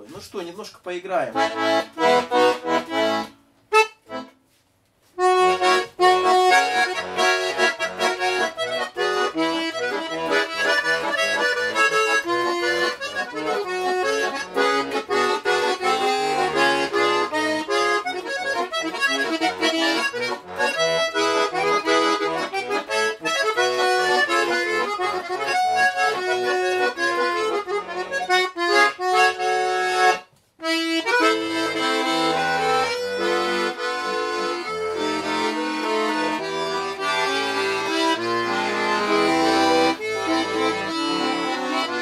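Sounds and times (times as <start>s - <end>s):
button accordion playing: 1.3s - 42.0s.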